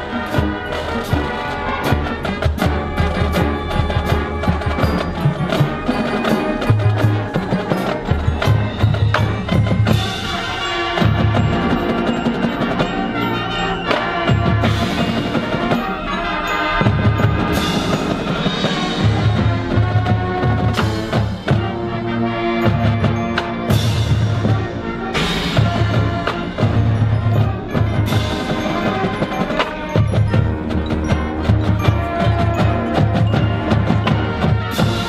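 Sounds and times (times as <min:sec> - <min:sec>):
marching band playing: 0:00.0 - 0:35.0
sharp percussion strikes: 0:00.0 - 0:35.0.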